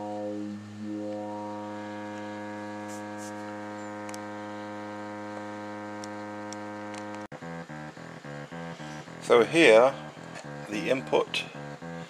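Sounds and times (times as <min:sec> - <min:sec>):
sequenced short synth notes: 0:00.0 - 0:12.0
synth low drone: 0:00.0 - 0:12.0.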